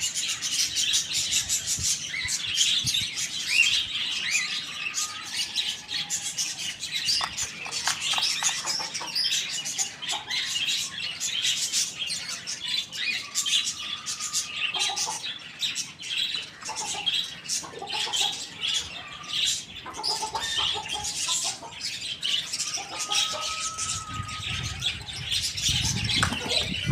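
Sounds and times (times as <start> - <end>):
flock of birds chirping: 0.0 - 26.9.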